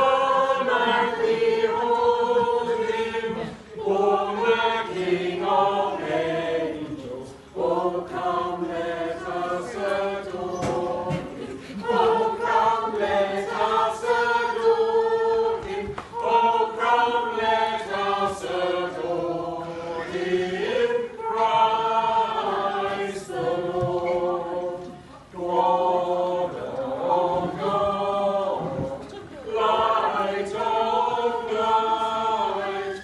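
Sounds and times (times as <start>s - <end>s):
mixed choir singing: 0.0s - 33.0s.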